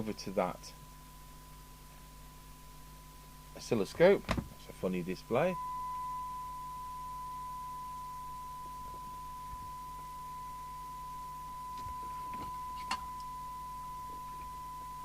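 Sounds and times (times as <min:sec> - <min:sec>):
low mains hum: 0:00.0 - 0:15.0
steady test tone from radio: 0:00.0 - 0:15.0.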